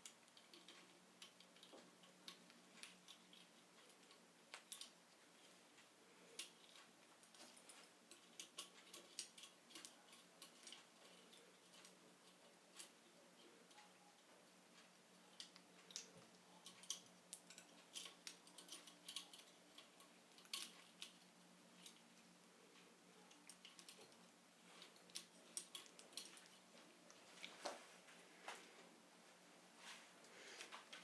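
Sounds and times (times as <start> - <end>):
small hard parts clicking: 0.0 - 27.8
low steady hum: 0.0 - 31.0.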